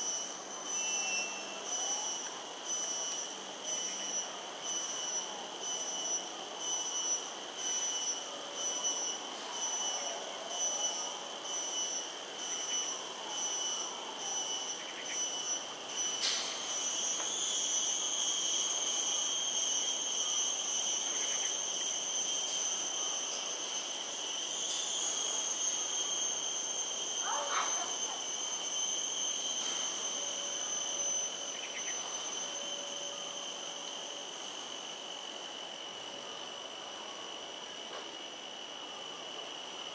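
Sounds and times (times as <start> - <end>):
shrill insect whine: 0.0 - 39.9.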